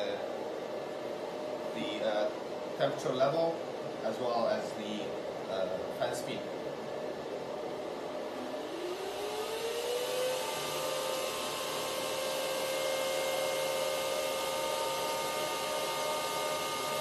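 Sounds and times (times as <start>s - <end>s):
cooling fans whirring: 0.0s - 17.0s.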